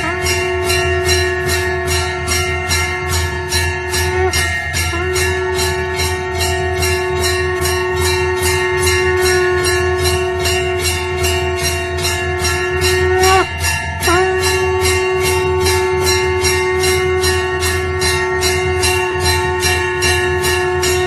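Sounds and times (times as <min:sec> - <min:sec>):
conch shell blast: 0:00.0 - 0:21.0
temple bell ringing: 0:00.0 - 0:21.0.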